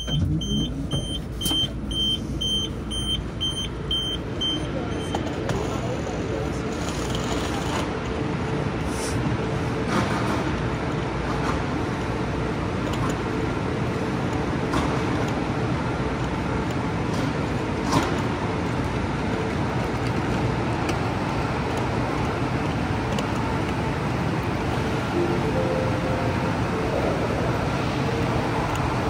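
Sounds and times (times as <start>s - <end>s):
rumbling station ambience: 0.0s - 29.0s.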